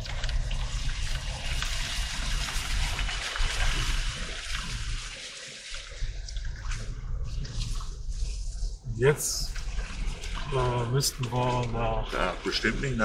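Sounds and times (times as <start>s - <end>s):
water splashing under car: 0.0s - 8.0s, 9.5s - 13.0s.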